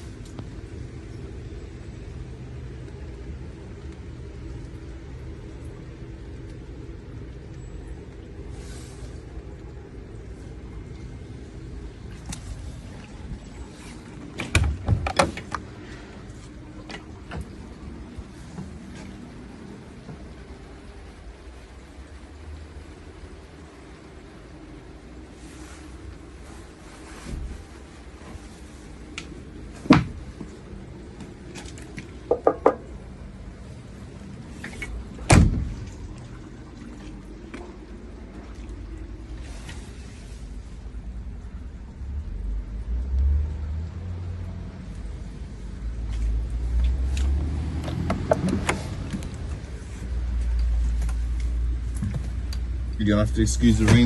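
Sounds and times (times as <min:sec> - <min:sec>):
rain: 0:00.0 - 0:54.0
wind: 0:00.0 - 0:54.0.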